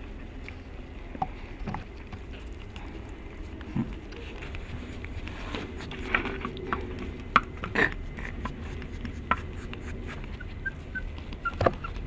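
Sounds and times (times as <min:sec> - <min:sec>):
puppies scuffling: 0:00.0 - 0:12.0.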